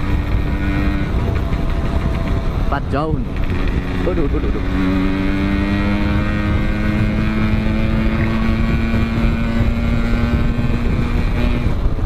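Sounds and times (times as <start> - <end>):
motorcycle engine at high speed: 0.0 - 12.0
wind rumble on microphone: 0.0 - 12.0.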